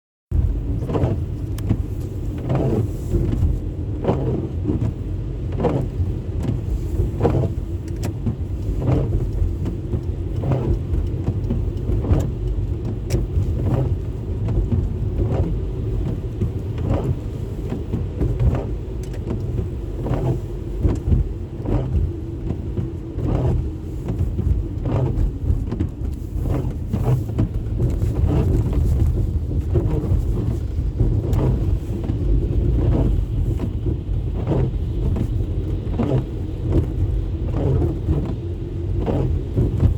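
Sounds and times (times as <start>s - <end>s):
car engine and road rumble: 0.3s - 39.9s.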